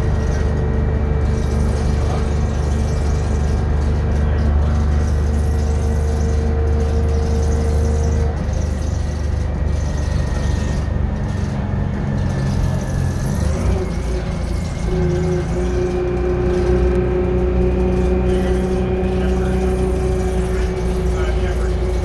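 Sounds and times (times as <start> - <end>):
bus diesel engine running: 0.0 - 22.0
steady whine: 0.0 - 22.0.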